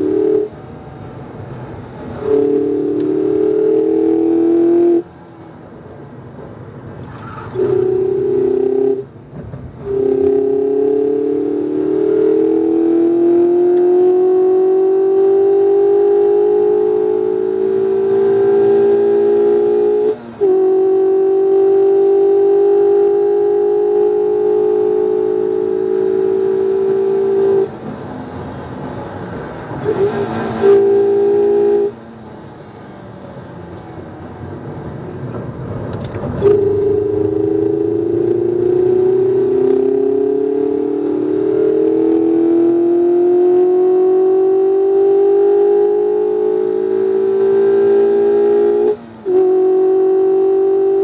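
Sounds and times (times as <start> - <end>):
engine rev blips: 0.0 - 0.8, 1.8 - 5.1, 7.0 - 27.8, 29.5 - 32.0, 35.9 - 51.0
car engine accelerating: 0.0 - 51.0.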